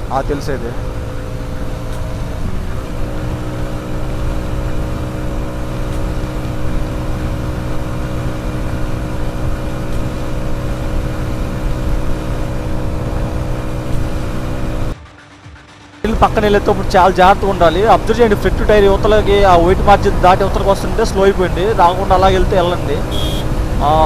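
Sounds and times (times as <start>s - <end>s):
motorcycle engine cruising: 0.0s - 15.0s, 16.0s - 24.0s.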